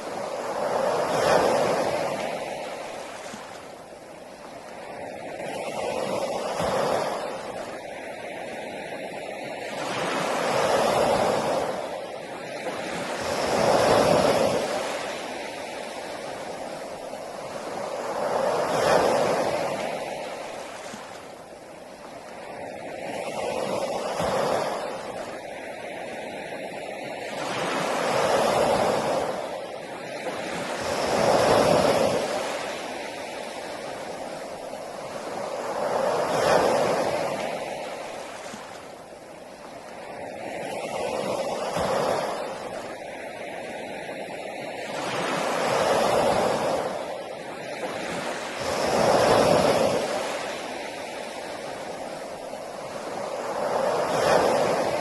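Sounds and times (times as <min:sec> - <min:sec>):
sea waves breaking on beach: 0:00.0 - 0:55.0.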